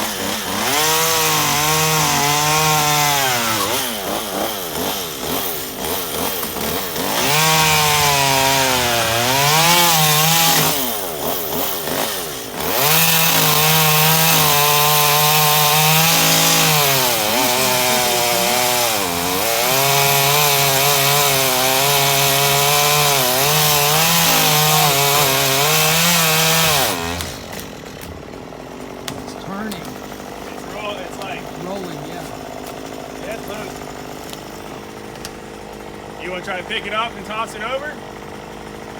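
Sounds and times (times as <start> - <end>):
chainsaw cutting tree trunk: 0.0 - 38.9.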